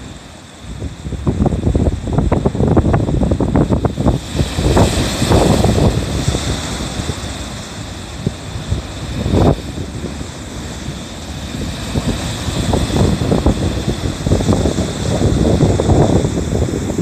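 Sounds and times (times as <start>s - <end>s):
waves breaking over rocks: 0.0s - 17.0s
wind buffeting microphone: 0.0s - 17.0s.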